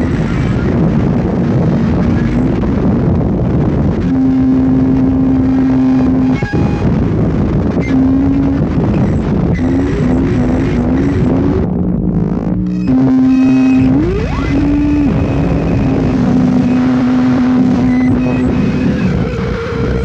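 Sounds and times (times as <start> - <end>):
distorted low rumble noise music: 0.0 - 20.0
steady droning tone: 0.0 - 20.0.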